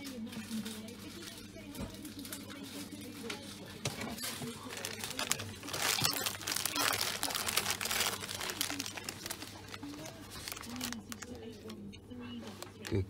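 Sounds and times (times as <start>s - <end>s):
wrapping paper crinkling and tearing: 0.0s - 11.7s, 12.4s - 13.0s.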